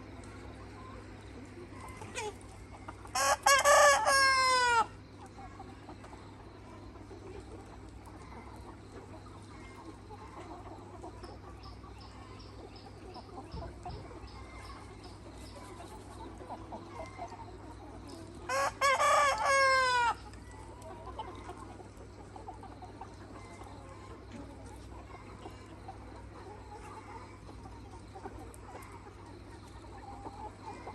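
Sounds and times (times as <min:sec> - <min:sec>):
hens clucking: 0:00.0 - 0:30.9.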